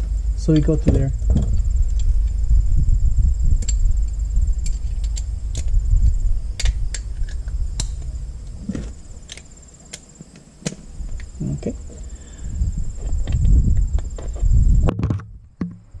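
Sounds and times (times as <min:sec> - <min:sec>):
low rumble: 0:00.0 - 0:09.8, 0:10.8 - 0:16.0
thin high whine: 0:00.0 - 0:14.9.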